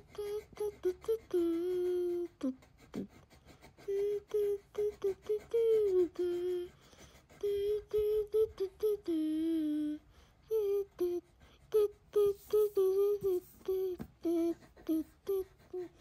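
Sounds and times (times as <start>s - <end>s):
child humming: 0.0s - 16.0s.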